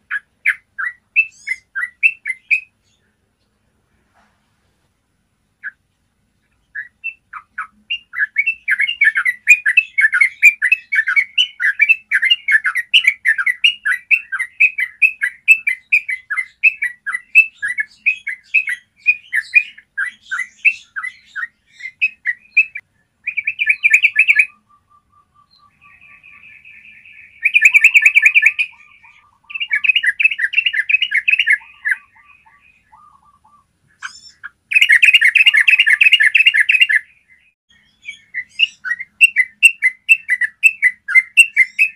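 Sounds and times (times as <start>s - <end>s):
bird singing with rolling trills: 0.0s - 3.8s, 5.5s - 41.9s.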